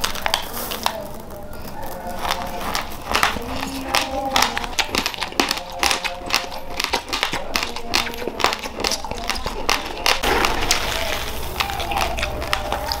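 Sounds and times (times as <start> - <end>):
chewing raw rice crunching: 0.0 - 13.0.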